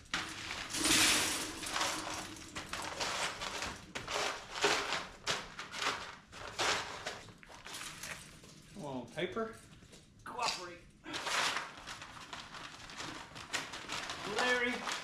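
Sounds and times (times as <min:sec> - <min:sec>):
paper rustling and crinkling: 0:00.0 - 0:09.0, 0:11.1 - 0:15.0.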